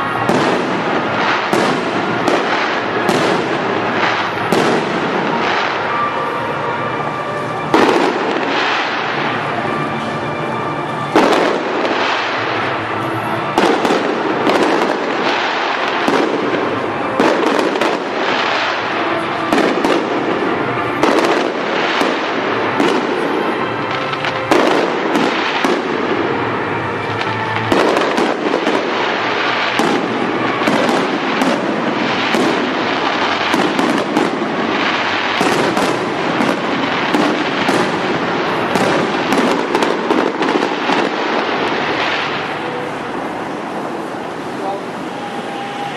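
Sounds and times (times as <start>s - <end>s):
fireworks bangs and bursts: 0.0s - 45.9s.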